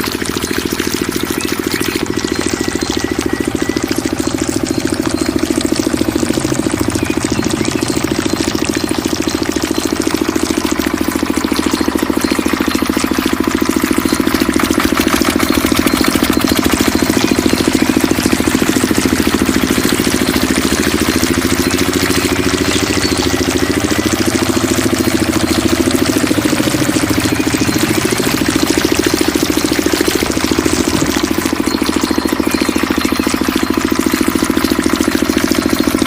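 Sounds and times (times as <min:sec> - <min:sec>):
small diesel water pump engine: 0:00.0 - 0:36.0.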